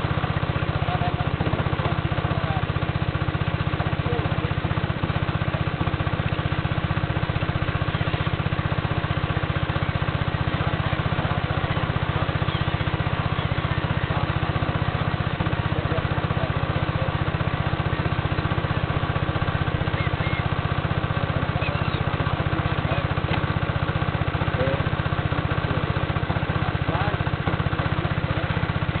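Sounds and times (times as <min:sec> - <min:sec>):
small boat motor chugging: 0:00.0 - 0:29.0.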